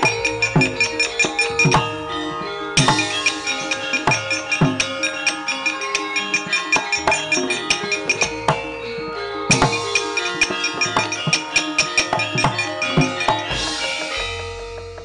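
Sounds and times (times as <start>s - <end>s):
hand drum strokes: 0.0s - 2.0s, 2.8s - 8.7s, 9.5s - 15.0s
ringing bronze metallophones: 0.0s - 15.0s.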